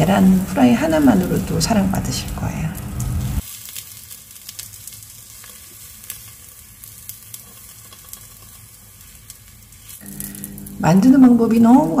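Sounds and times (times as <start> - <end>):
egg sizzling in frying pan: 0.0 - 12.0.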